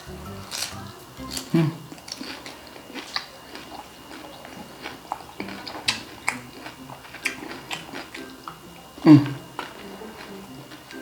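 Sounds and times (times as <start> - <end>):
crunching and chewing crispy food: 0.0 - 11.0.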